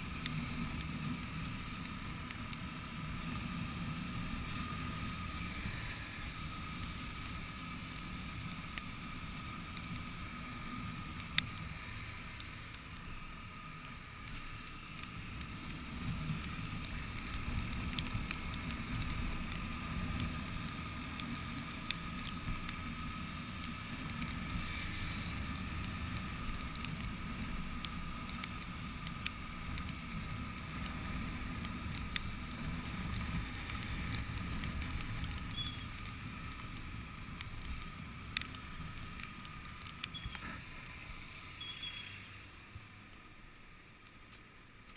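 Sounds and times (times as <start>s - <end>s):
wind and road noise: 0.0s - 44.9s.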